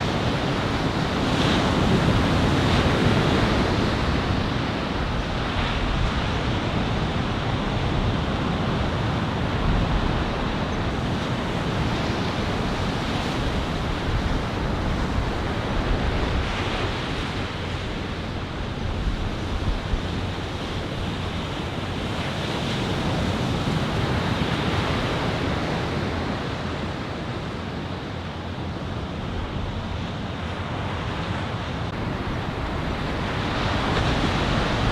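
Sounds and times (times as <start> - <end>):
ocean waves breaking: 0.0 - 34.9
wind on microphone: 0.0 - 34.9.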